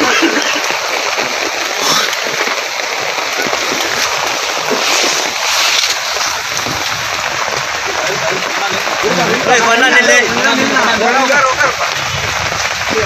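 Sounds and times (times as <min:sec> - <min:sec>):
floodwater rushing: 0:00.0 - 0:13.0
people wading and splashing: 0:00.0 - 0:13.0.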